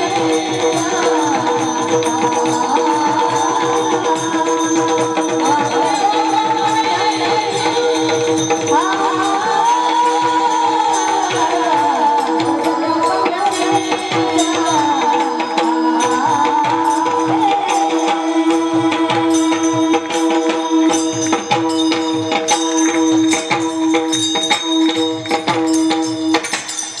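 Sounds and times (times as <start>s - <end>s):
hand cymbals and drum beat: 0.0s - 27.0s.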